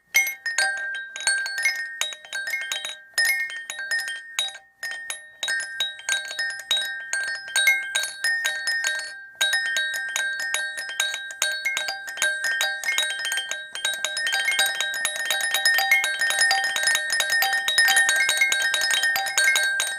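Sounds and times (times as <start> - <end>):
small bell jingling rapidly: 0.2 - 19.9.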